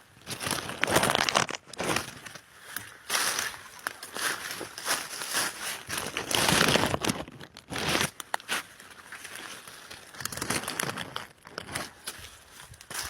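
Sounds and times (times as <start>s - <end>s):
dry leaf litter rustling: 0.2s - 13.0s.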